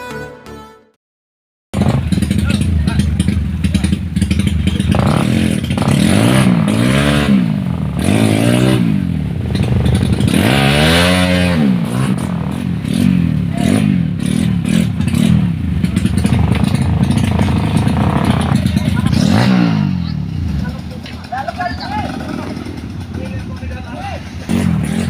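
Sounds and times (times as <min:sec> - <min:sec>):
dirt bike engine revving: 0:01.8 - 0:25.0.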